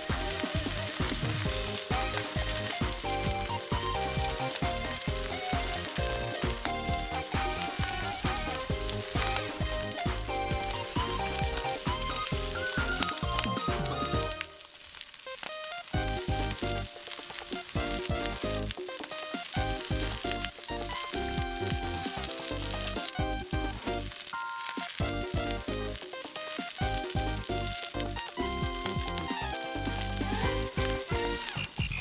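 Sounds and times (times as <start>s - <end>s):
fat spitting and crackling: 0.0s - 32.0s
steak sizzling over a fire: 0.0s - 32.0s.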